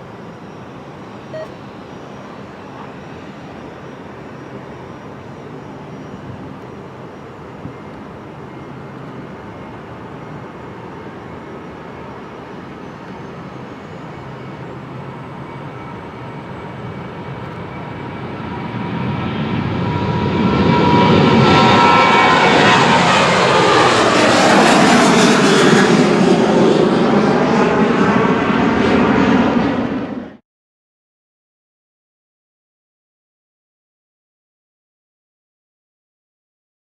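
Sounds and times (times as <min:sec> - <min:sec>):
aircraft engines roaring: 0:00.0 - 0:30.4
high engine whine: 0:00.0 - 0:30.4.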